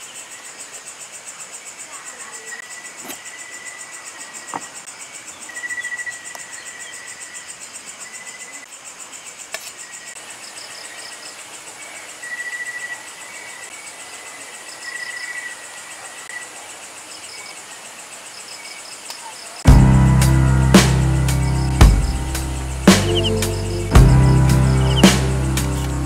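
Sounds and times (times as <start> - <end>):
crickets trilling: 0.0 - 26.0
insects pulsing buzz: 0.0 - 26.0.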